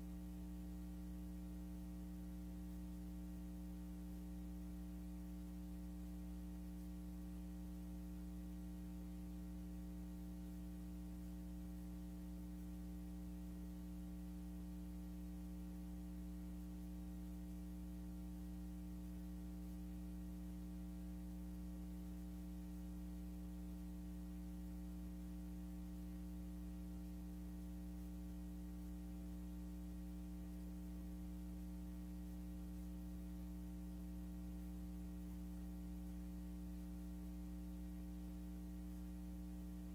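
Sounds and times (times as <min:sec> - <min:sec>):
electrical mains hum: 0:00.0 - 0:39.9
faint hiss: 0:00.0 - 0:39.9.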